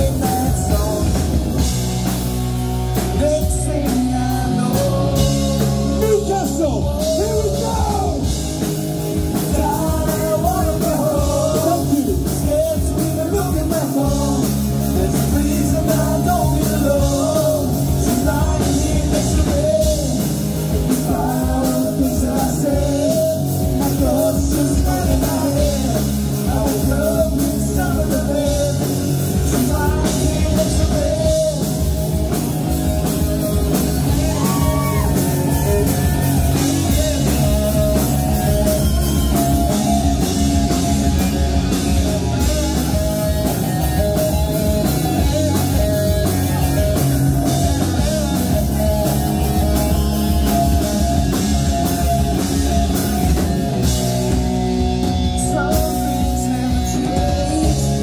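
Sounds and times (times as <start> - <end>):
person singing: 0.0 - 1.8, 2.9 - 8.5, 9.2 - 58.0
bass guitar: 0.0 - 58.0
drum kit: 0.0 - 58.0
electric guitars: 0.0 - 58.0.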